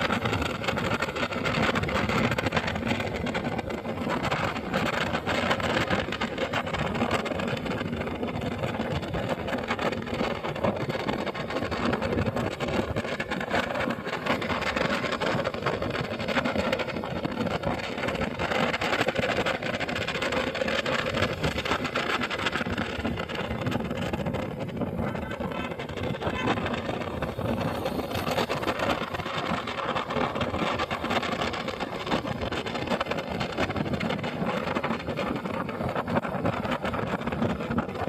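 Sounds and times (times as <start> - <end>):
broad rushing noise: 0.0 - 38.0
motorcycle engine drone: 0.0 - 38.0.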